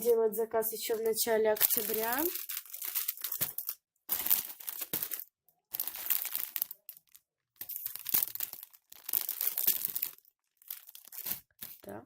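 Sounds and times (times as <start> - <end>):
packaging crinkling: 0.9 - 11.9.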